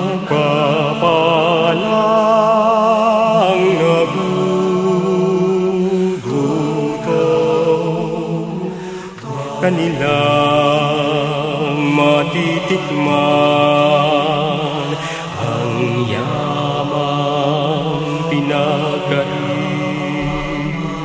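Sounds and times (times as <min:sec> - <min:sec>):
slow background music: 0:00.0 - 0:21.0.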